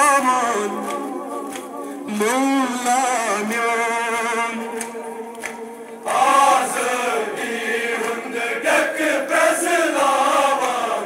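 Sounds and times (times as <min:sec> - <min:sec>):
men singing mourning lament: 0:00.0 - 0:11.0.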